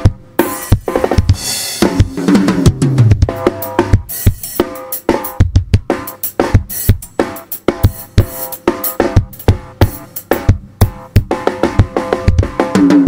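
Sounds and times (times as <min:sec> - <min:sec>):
drum kit played fast: 0:00.0 - 0:13.0.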